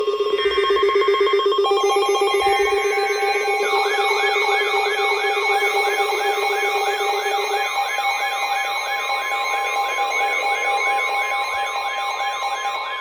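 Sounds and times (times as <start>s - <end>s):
pulsing ringing tone: 0.0s - 13.0s.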